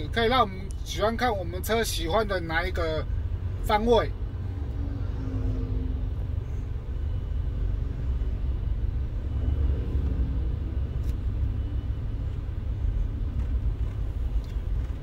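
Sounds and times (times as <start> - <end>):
car interior road noise: 0.0 - 15.0.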